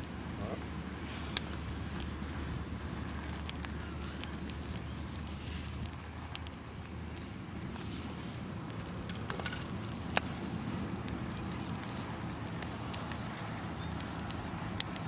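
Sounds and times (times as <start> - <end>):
campfire crackling and popping: 0.0 - 15.0
low steady rumble: 0.0 - 15.0.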